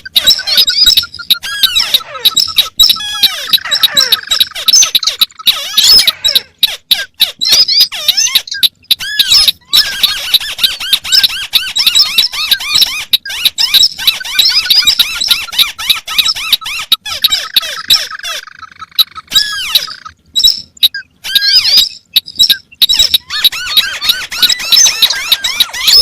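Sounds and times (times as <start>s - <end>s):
crakes calling: 0.0s - 26.0s.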